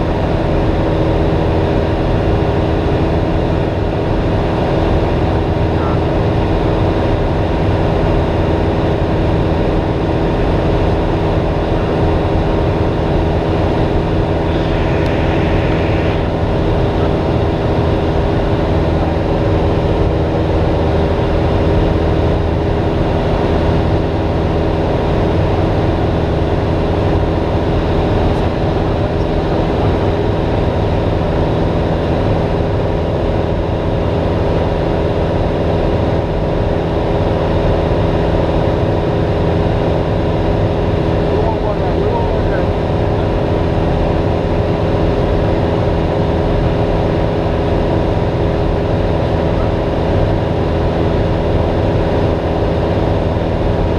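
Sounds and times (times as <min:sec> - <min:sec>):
airplane engine and propeller drone: 0:00.0 - 0:53.9.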